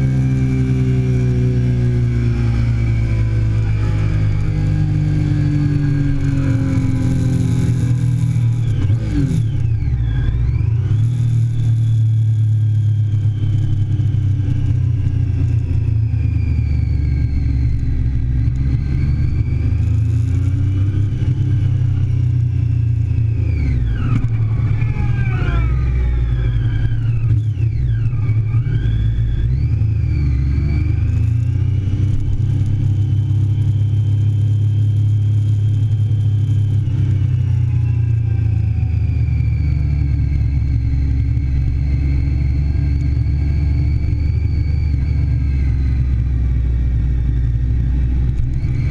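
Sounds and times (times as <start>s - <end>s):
motorcycle engine revving at speed: 0.0s - 48.9s.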